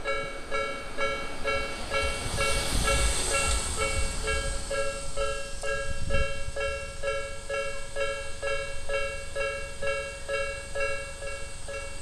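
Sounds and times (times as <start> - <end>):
car passing with tyre hiss: 0.2 - 12.0.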